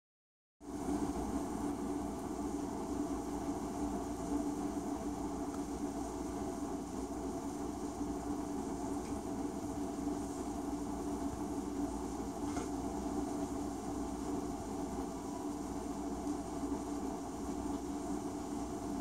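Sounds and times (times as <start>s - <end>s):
low machine hum with hiss: 0.6s - 19.0s.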